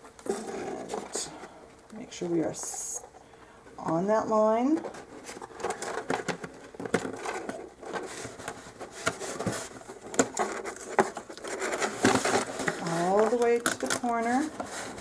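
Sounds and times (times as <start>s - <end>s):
tape rustling and scraping: 0.0s - 1.6s, 3.8s - 15.0s.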